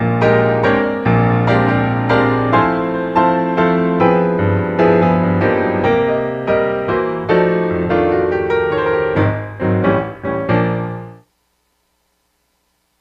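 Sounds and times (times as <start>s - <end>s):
piano music: 0.0s - 11.2s.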